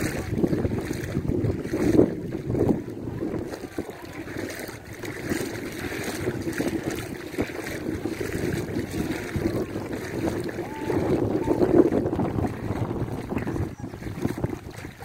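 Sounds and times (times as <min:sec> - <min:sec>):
sea water lapping: 0:00.0 - 0:15.0
wind buffeting microphone: 0:00.0 - 0:15.0.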